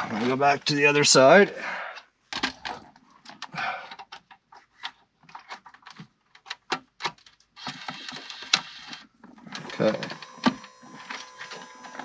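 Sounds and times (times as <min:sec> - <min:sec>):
hands handling parts and wiring: 0:02.0 - 0:12.0.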